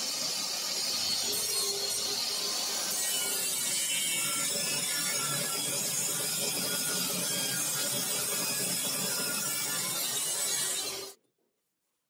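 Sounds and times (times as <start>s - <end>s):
table saw cutting wood: 0.0s - 11.2s.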